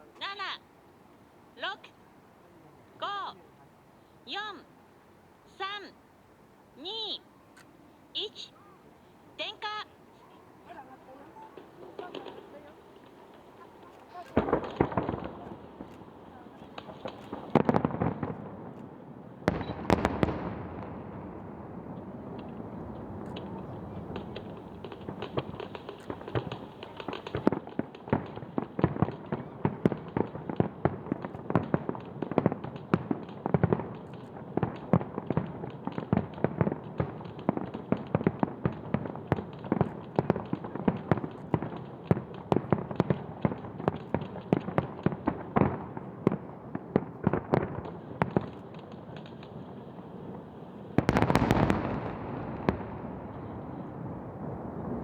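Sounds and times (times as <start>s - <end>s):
fireworks bursting: 6.8s - 55.0s.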